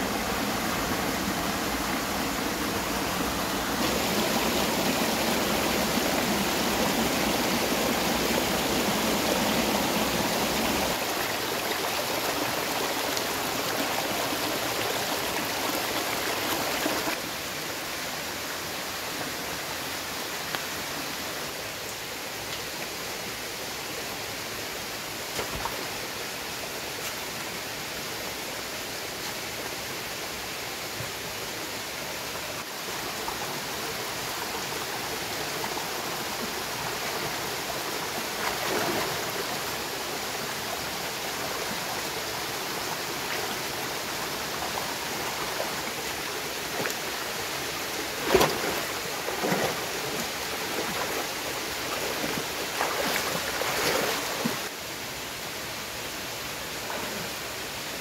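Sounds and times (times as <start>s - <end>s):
stream flowing water: 0.0s - 58.0s.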